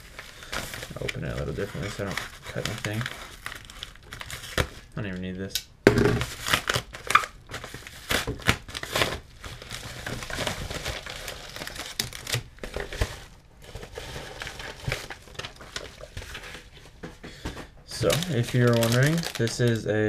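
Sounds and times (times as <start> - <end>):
paper and plastic packaging crinkling: 0.0 - 5.3, 6.2 - 19.9.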